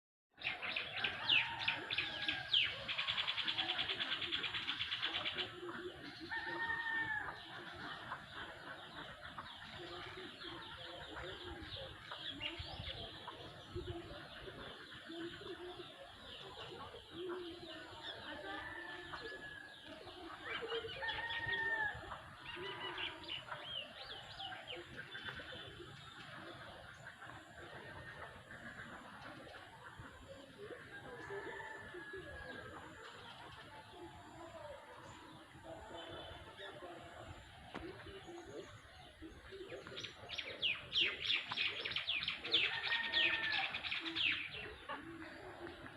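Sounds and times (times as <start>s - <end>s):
birds chirping: 0.3s - 45.9s.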